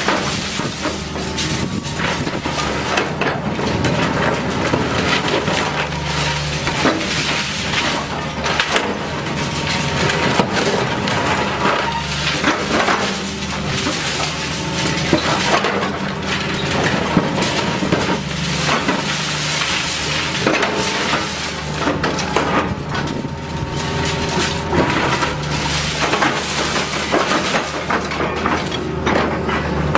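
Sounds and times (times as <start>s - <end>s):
concrete cracking and crunching: 0.0s - 29.9s
machine engine hum: 0.0s - 29.9s.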